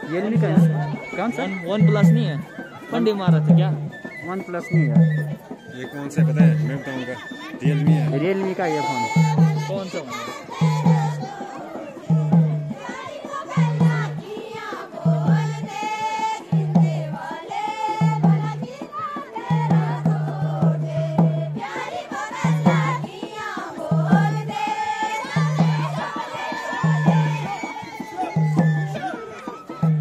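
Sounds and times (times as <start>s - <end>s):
deep drum beat: 0.0s - 6.8s, 7.6s - 29.2s.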